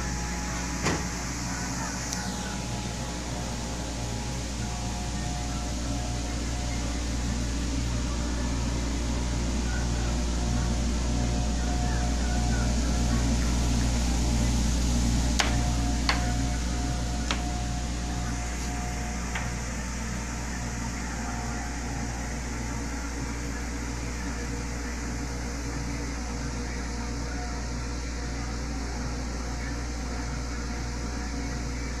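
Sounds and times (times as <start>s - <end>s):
blower fan humming and hissing: 0.0s - 32.0s.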